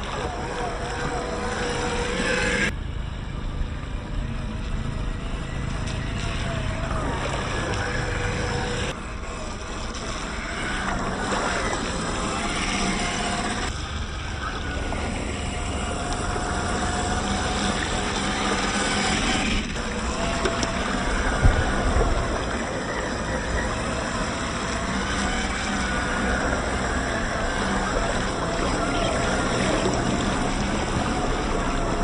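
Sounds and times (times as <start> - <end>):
water splashing and sloshing: 0.0 - 2.8, 4.6 - 32.0
electric motor whine: 0.0 - 32.0.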